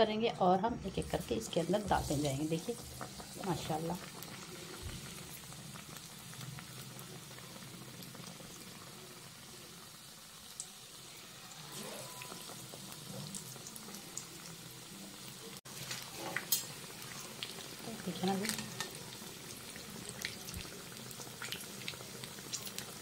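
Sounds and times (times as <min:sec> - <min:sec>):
potato slices deep-frying in oil: 0:00.5 - 0:23.0.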